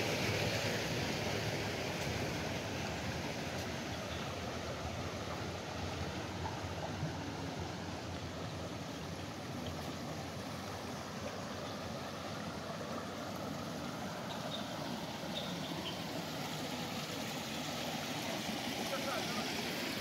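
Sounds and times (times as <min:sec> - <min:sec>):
water rushing along channel: 0:00.0 - 0:20.0.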